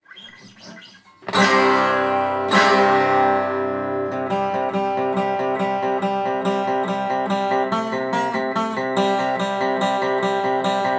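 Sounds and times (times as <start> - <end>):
acoustic guitar strumming: 0.0 - 10.9.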